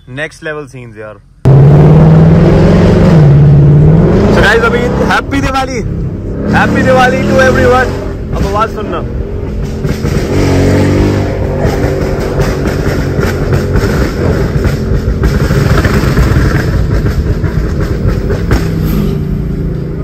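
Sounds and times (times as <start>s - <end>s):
car exhaust rumble: 1.3s - 20.0s.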